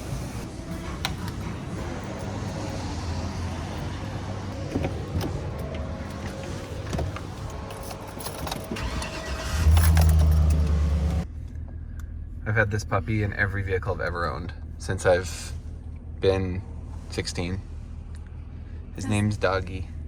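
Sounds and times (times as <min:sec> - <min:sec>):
low hum: 0:00.0 - 0:19.1
car cabin road rumble: 0:00.0 - 0:19.5.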